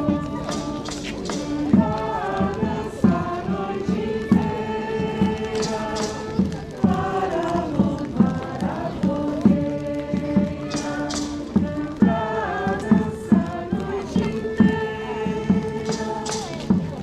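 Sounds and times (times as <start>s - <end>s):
group singing: 0.0s - 17.0s
steady drumbeat: 0.0s - 17.0s.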